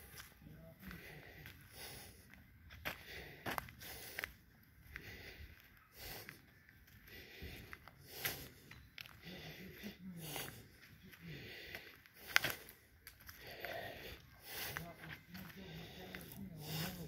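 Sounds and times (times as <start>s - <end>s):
faint distant voices: 0.0s - 17.0s
footsteps: 0.0s - 17.0s.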